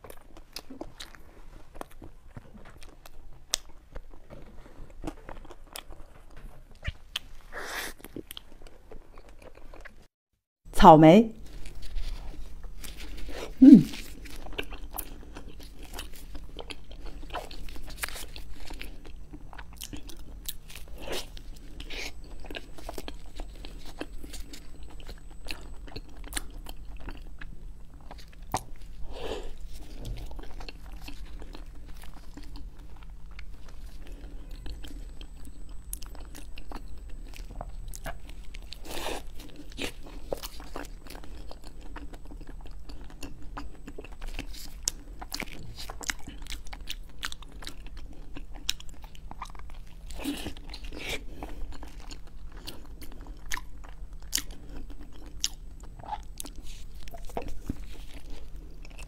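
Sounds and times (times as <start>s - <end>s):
biting and chewing soft cake: 0.0s - 10.1s, 11.4s - 59.0s
faint low hum: 10.7s - 59.0s.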